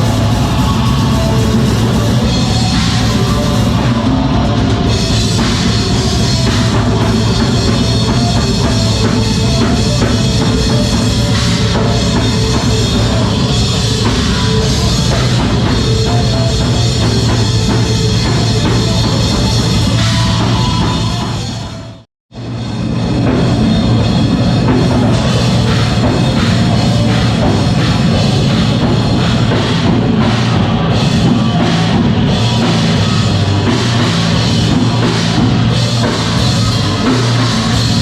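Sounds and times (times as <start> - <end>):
bass drum: 0.0 - 38.0
rock band playing heavy music: 0.0 - 38.0.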